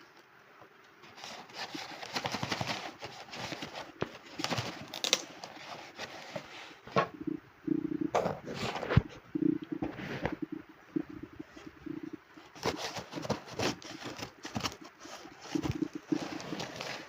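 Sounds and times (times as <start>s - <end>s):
rustling and knocking handling: 1.0s - 17.0s.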